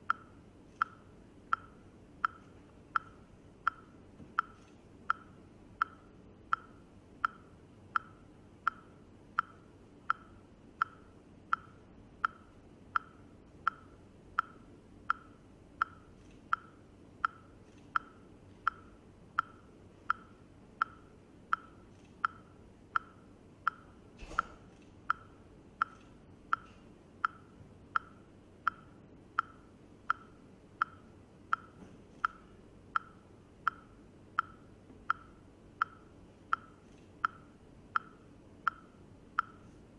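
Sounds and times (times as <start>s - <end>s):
metronome-like ticking: 0.0s - 24.1s, 25.0s - 39.7s.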